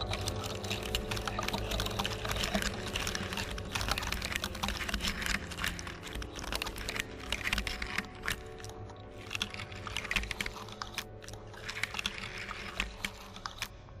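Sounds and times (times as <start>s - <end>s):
crackling and clicking: 0.0s - 14.0s
low steady hum: 0.0s - 14.0s.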